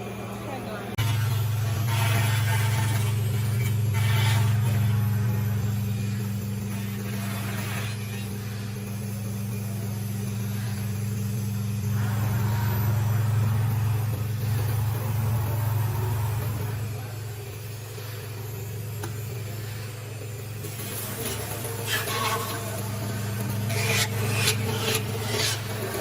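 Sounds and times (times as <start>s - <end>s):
cnc router machining foam: 0.0s - 26.0s.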